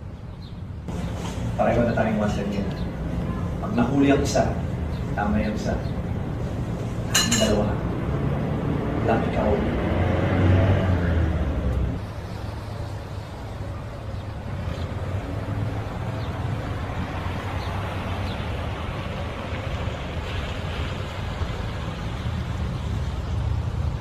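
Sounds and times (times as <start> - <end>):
road noise: 0.0 - 24.0
vehicle engine humming: 0.0 - 24.0.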